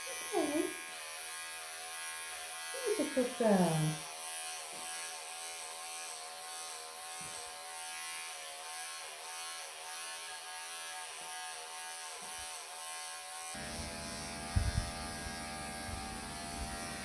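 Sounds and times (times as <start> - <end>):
electric pet clippers buzzing: 0.0 - 17.0.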